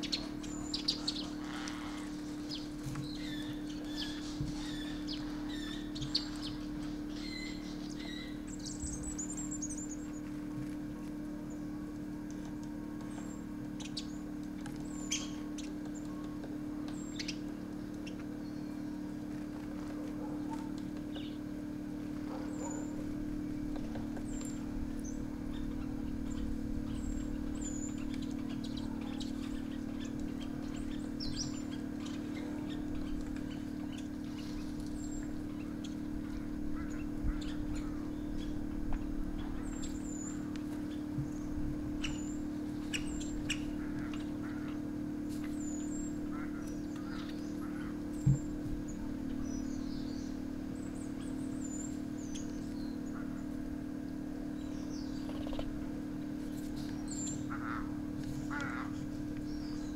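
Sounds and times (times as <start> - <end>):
birds chirping: 0.0 - 59.9
steady low hum: 0.0 - 59.9.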